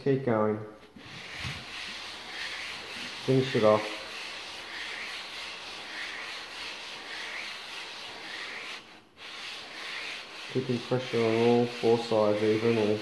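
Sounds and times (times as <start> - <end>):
metal rubbing on sandpaper: 1.0 - 13.0.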